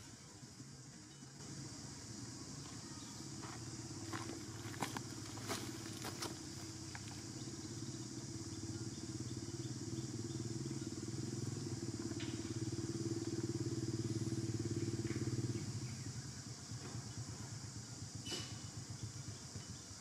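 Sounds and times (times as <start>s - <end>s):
engine running with rapid pulse: 1.4s - 18.2s.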